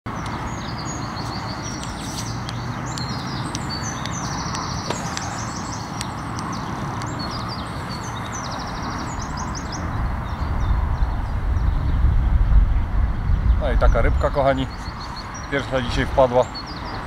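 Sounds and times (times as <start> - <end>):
small birds singing: 0.1 - 17.0
steady rushing noise: 0.1 - 17.0.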